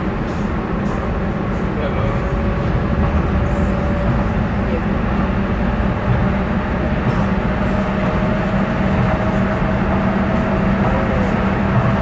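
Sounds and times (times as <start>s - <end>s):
rumble of wheels on track: 0.0s - 12.0s.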